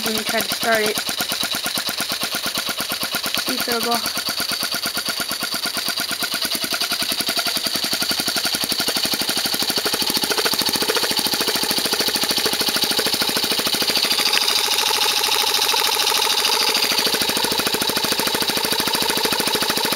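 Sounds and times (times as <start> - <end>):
model engine clattering: 0.0 - 19.9
tyre compressor running: 0.0 - 19.9.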